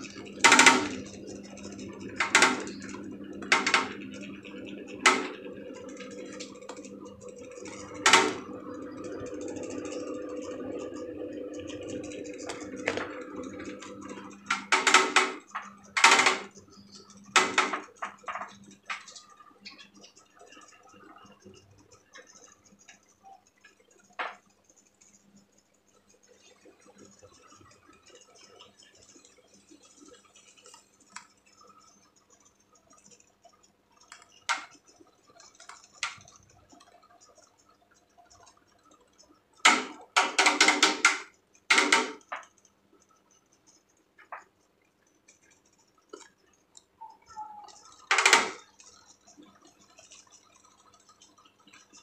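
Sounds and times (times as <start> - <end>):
electric fan motor humming: 0.0 - 52.0
sharp clicks and knocks: 0.0 - 52.0.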